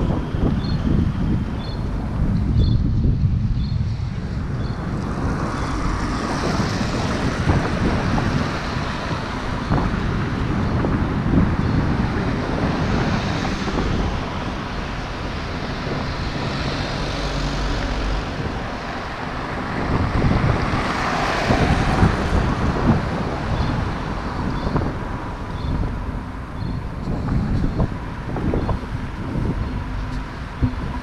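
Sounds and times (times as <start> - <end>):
street traffic: 0.0 - 31.0
wind buffeting microphone: 0.0 - 31.0.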